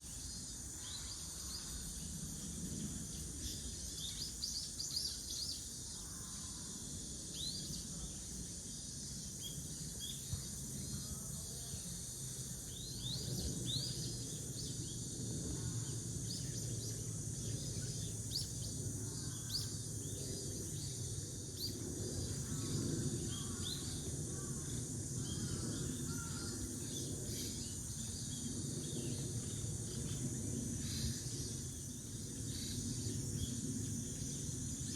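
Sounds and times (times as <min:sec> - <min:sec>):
high-pitched insect drone: 0:00.1 - 0:34.9.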